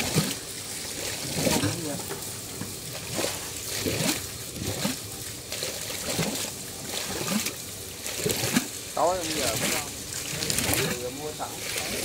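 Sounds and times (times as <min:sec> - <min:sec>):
muddy water gurgling and splashing: 0:00.0 - 0:12.0.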